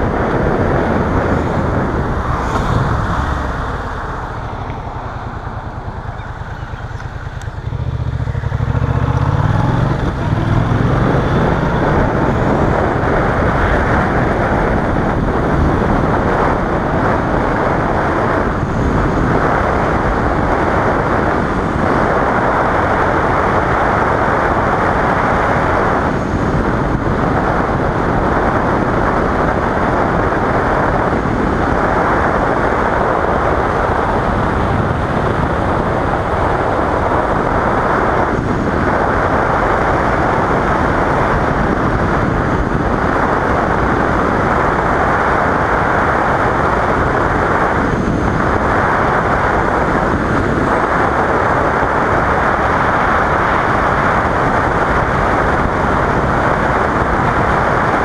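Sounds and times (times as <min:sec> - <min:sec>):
motorcycle engine: 0:00.0 - 0:58.0
road noise: 0:00.0 - 0:58.0
wind rush on camera: 0:00.0 - 0:58.0.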